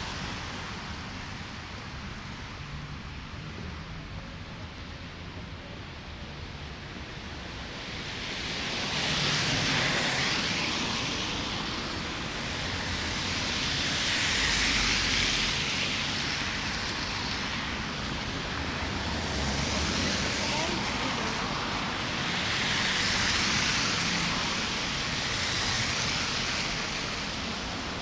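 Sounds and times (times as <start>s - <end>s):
vehicles passing on snowy road: 0.0s - 28.0s.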